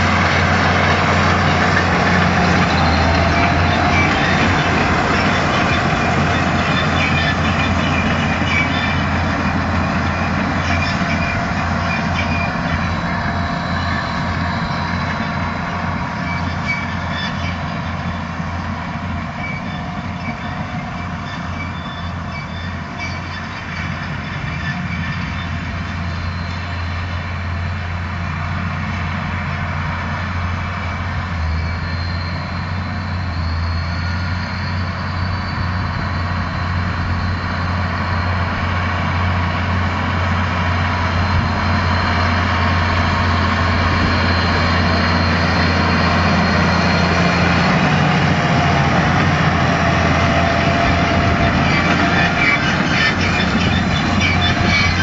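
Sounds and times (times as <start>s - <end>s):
tractor engine hum: 0.0s - 55.0s.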